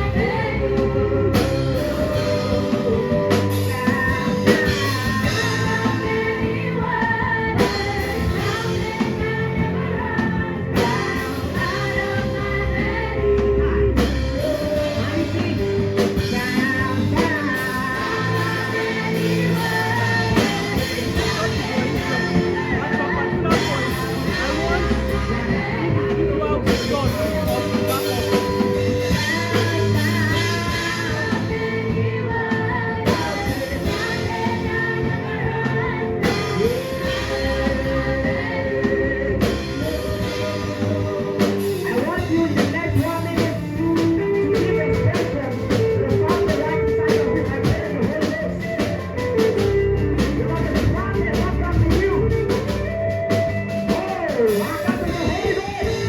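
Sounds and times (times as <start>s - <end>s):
band playing gospel song: 0.0s - 56.0s
singing: 0.0s - 56.0s.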